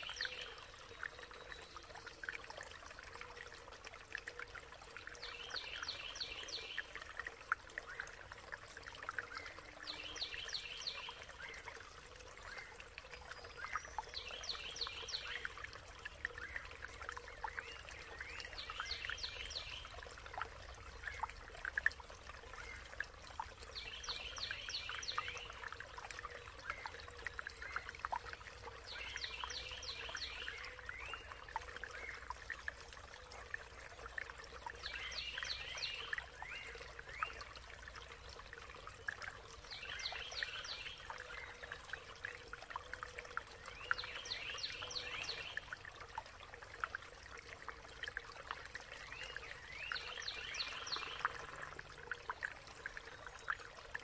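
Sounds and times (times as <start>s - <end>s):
brook trickling over stones: 0.0s - 54.0s.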